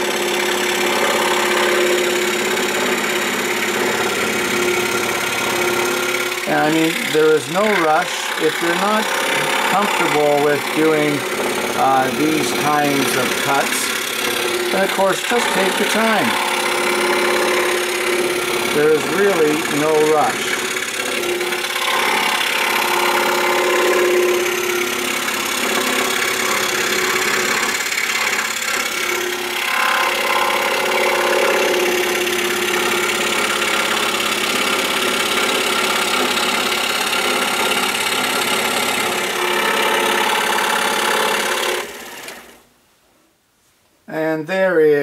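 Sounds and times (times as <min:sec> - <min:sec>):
scroll saw cutting wood: 0:00.0 - 0:42.7.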